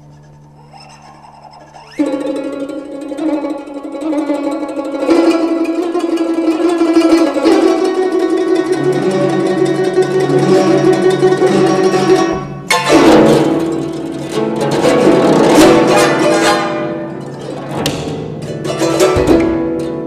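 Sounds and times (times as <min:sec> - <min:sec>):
plucked zither playing: 0:00.0 - 0:20.0.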